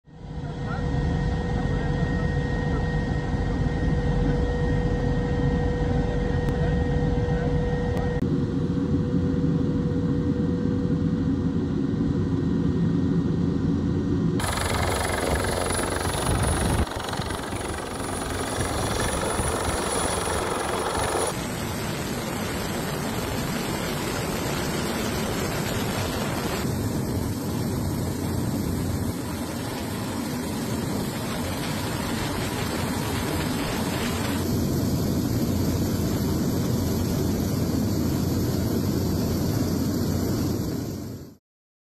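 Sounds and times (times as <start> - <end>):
helicopter turbine and rotor noise: 0.1 - 41.4.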